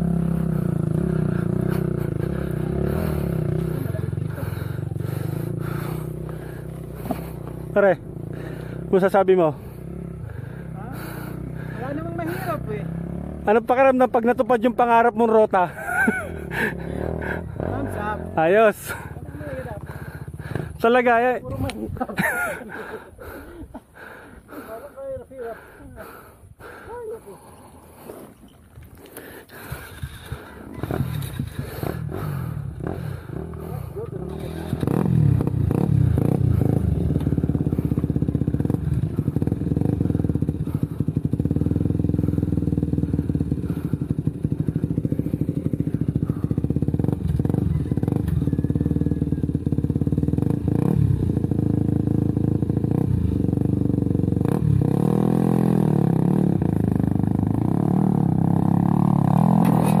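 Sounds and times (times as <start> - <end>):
motorcycle engine revving: 0.0 - 23.4, 29.0 - 60.0.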